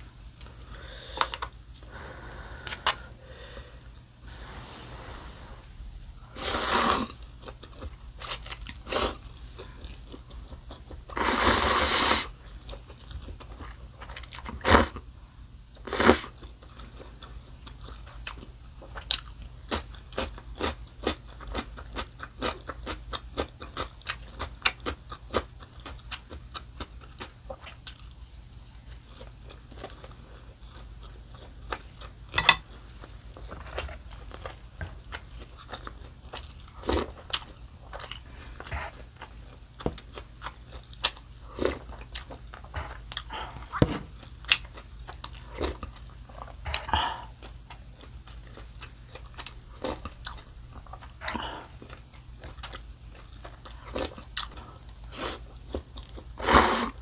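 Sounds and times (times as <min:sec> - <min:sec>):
person chewing food: 0:00.4 - 0:11.4, 0:12.4 - 0:15.0, 0:15.7 - 0:56.8.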